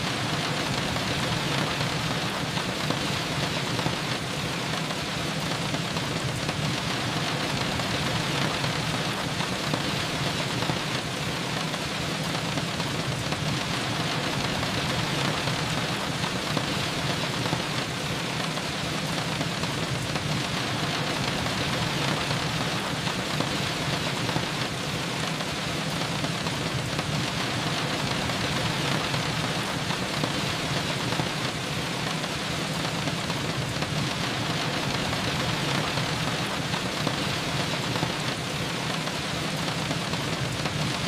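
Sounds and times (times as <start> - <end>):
rain falling: 0.0 - 41.0.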